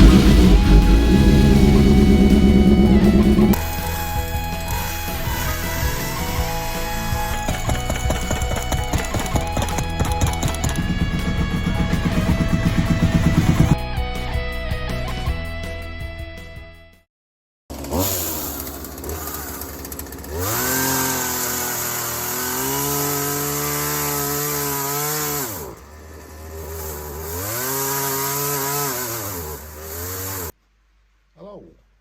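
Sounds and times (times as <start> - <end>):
chainsaw engine idling and revving: 0.0 - 13.8, 17.7 - 30.6.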